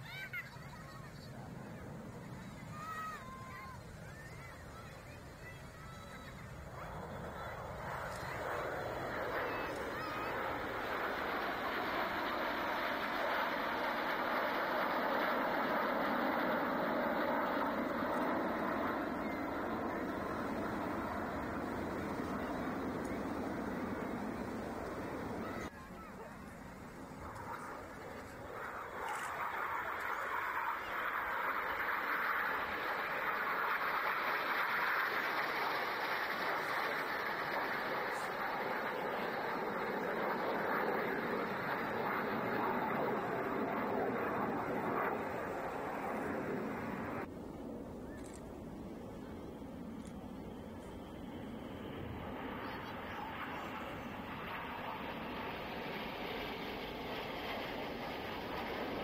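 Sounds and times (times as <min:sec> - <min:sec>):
jet engines rushing: 0:00.0 - 0:59.0.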